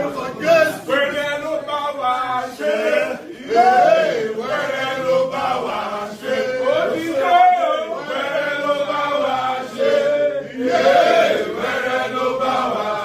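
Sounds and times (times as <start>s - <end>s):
crowd chanting and singing: 0.0s - 13.0s.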